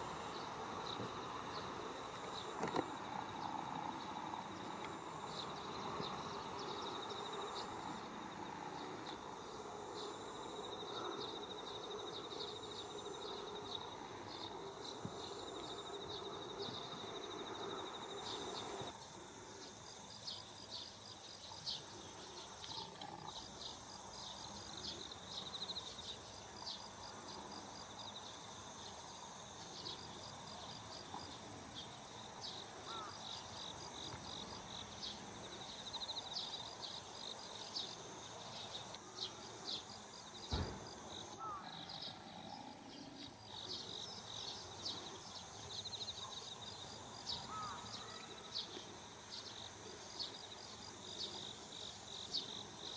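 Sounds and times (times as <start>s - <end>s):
insects chirping: 0.0s - 52.9s
low outdoor background hum: 0.0s - 52.9s.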